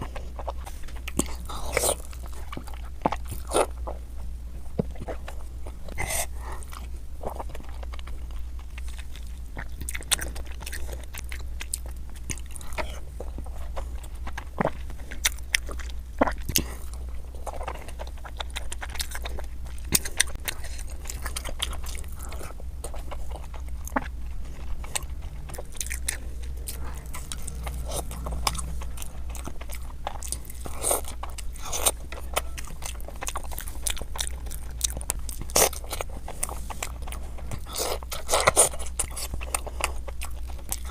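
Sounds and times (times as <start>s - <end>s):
chewing and crunching: 0.0s - 40.9s
steady low hum: 0.0s - 40.9s.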